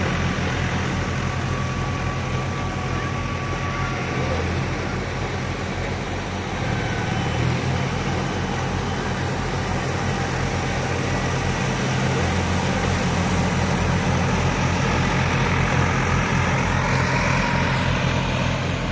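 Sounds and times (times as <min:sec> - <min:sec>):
tractor engines droning: 0:00.0 - 0:18.9.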